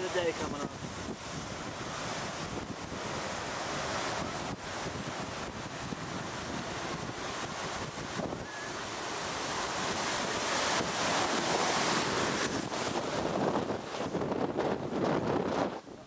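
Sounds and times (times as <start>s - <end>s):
heavy surf breaking: 0.0s - 16.0s
wind buffeting microphone: 0.0s - 16.0s.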